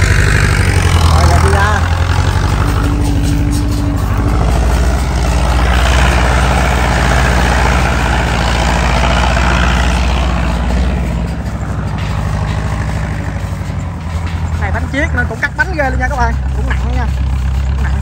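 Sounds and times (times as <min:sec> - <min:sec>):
combine harvester diesel engine: 0:00.0 - 0:18.0.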